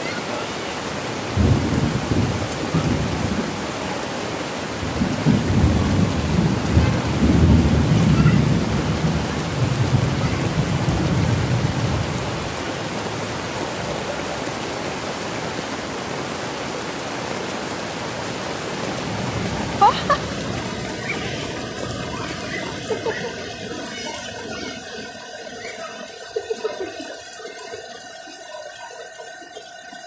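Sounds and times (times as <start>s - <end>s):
heavy rain on pavement: 0.0s - 30.0s.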